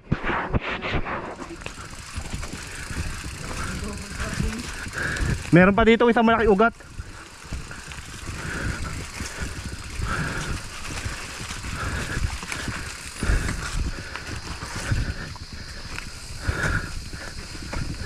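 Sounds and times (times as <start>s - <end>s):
bike rattling over dirt trail: 0.0s - 18.0s.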